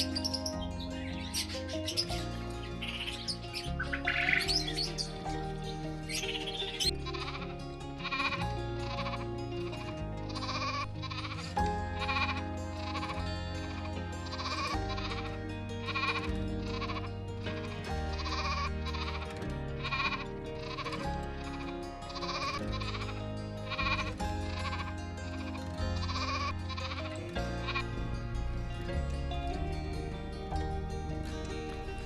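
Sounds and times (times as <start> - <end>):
animal bleating: 0.0 - 5.4, 6.1 - 28.4
background music with bass line: 0.0 - 32.0.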